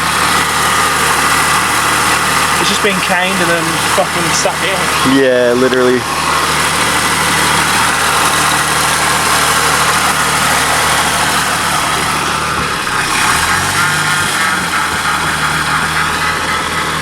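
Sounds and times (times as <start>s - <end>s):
car engine idling: 0.0s - 17.0s
power steering pump noise: 0.0s - 17.0s.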